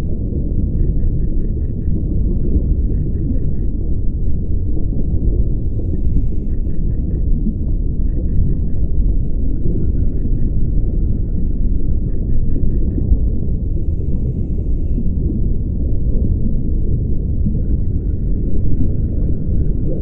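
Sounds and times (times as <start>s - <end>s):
low underwater rumble: 0.0s - 20.0s.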